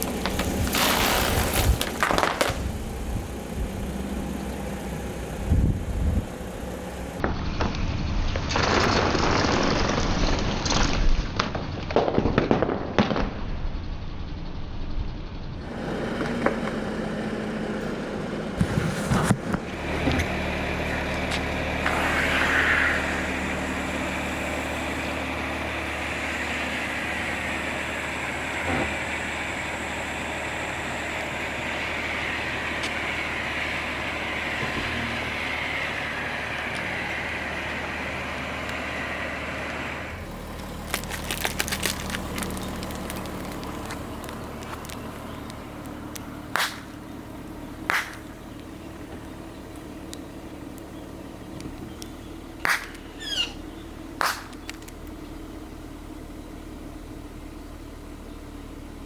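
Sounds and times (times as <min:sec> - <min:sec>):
things crunching under tyres: 0:00.0 - 0:13.4, 0:15.5 - 0:59.0
car running: 0:00.0 - 0:59.0.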